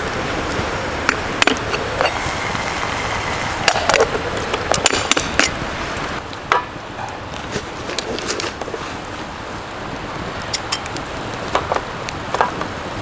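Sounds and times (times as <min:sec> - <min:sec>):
fire hissing: 0:00.0 - 0:13.0
firewood crackling and popping: 0:00.0 - 0:13.0.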